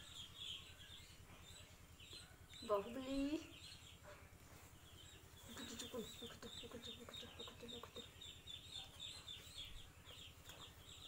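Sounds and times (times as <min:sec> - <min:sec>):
lower repeated bird calls: 0:00.0 - 0:11.0.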